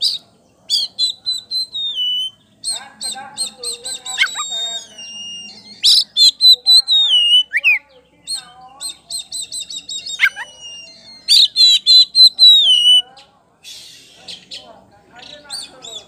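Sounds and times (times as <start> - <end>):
bird singing varied song: 0.0 - 16.0.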